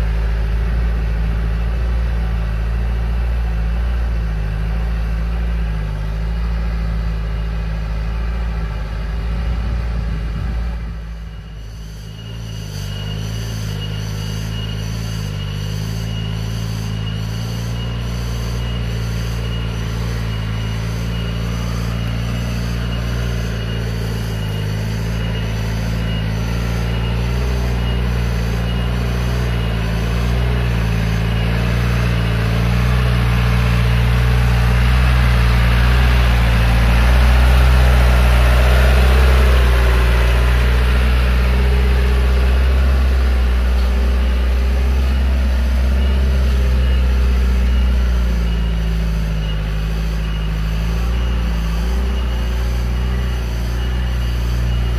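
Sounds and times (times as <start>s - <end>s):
jeep engine running: 0.0s - 54.9s.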